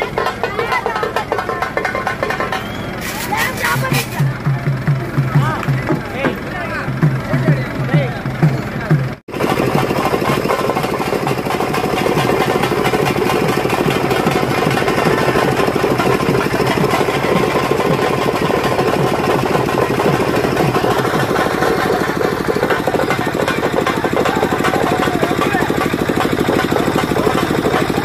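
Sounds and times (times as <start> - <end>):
fast loud drumming: 0.0 - 28.0.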